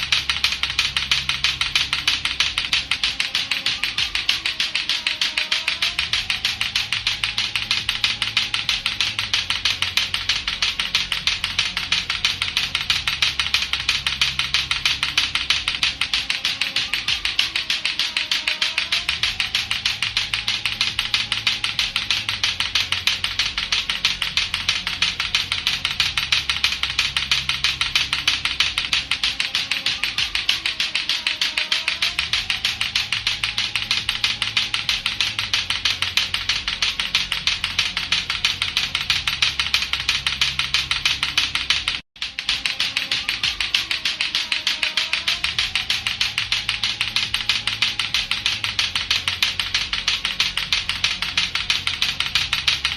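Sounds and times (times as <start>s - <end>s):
plastic balls clacking together: 0.0s - 52.9s.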